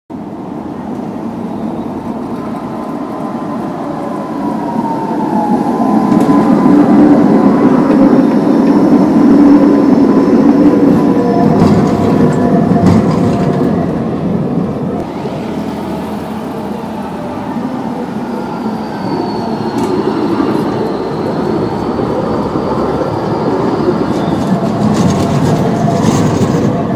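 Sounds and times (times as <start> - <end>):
tram motor whine: 0.1 - 26.9
tram wheel and rail rumble: 0.1 - 26.9.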